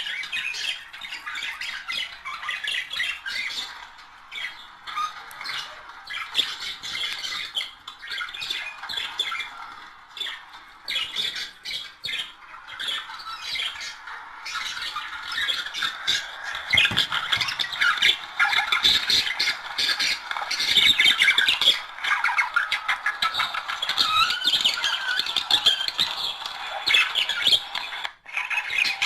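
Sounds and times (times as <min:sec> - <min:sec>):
budgerigars chattering and warbling: 0:00.0 - 0:29.0.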